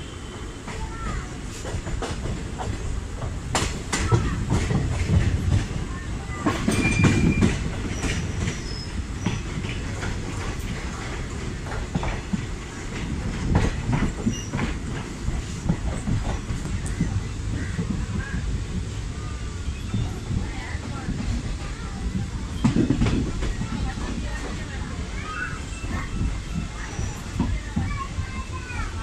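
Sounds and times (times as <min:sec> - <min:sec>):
train rumbling on track: 0:00.0 - 0:29.0
wheels clacking over rail joints: 0:00.6 - 0:29.0.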